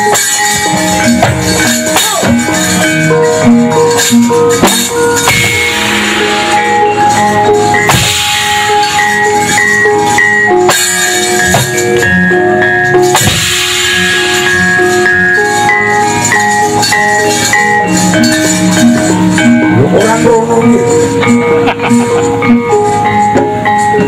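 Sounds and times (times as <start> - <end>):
gamelan ensemble playing: 0.0 - 24.0.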